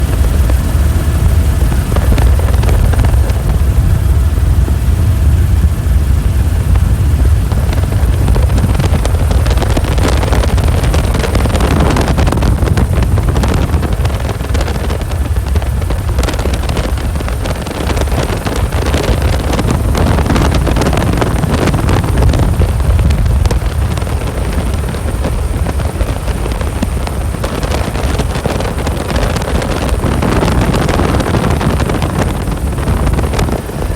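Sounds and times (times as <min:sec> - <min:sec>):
helicopter rotor and engine drone: 0:00.0 - 0:33.9
wind buffeting microphone: 0:00.0 - 0:33.9.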